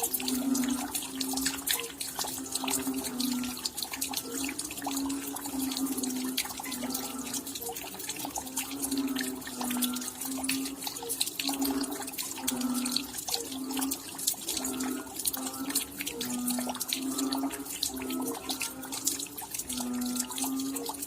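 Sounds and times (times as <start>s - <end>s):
patter of raindrops: 0.0s - 21.0s.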